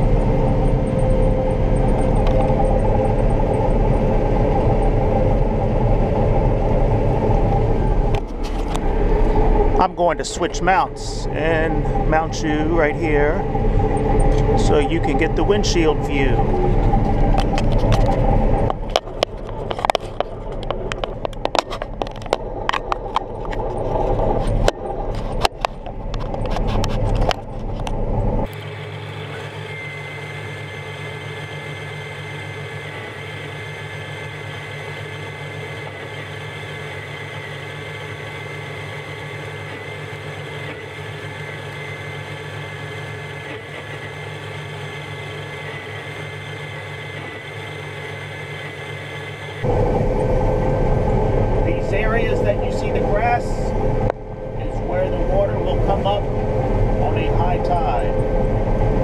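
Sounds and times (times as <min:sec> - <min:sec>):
combine harvester drone: 0:00.0 - 0:59.0
high whine: 0:00.0 - 0:59.0.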